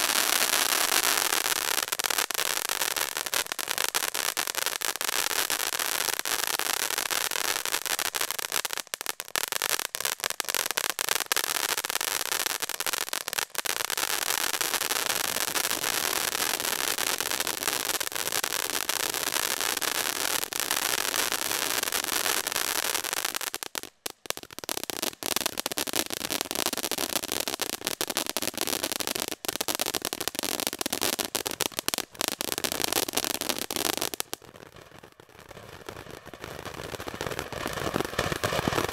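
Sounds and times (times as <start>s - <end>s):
firework fountain hissing and crackling: 0.0s - 38.9s.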